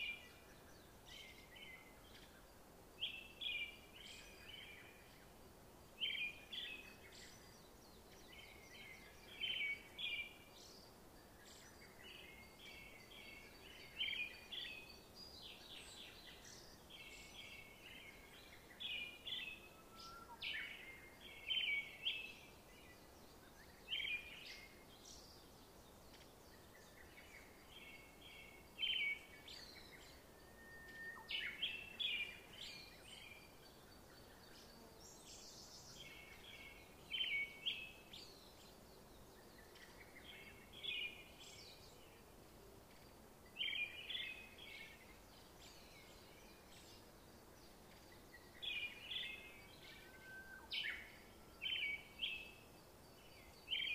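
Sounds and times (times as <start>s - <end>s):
faint steady hiss: 0.0s - 53.9s
small songbirds chirping: 0.0s - 53.9s.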